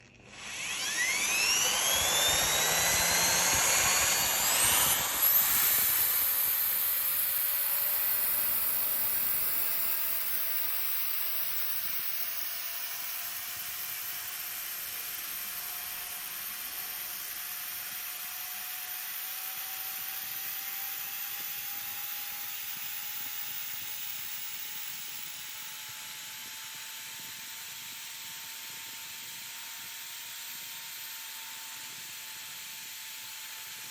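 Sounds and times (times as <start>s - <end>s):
electric drill grinding whine: 0.0s - 33.9s.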